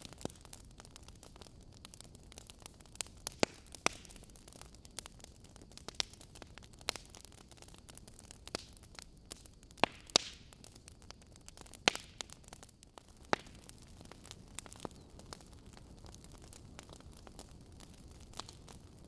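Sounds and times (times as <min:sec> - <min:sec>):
fire hissing: 0:00.0 - 0:19.0
wood fire crackling: 0:00.0 - 0:19.0.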